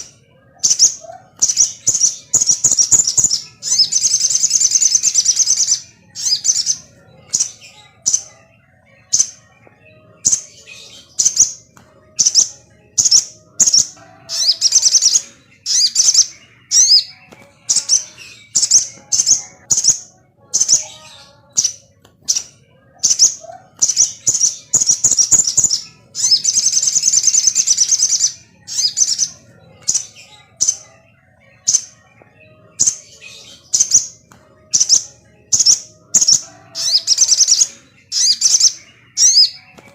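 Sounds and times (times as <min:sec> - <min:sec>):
bird chirping and chattering: 0:00.0 - 0:39.9.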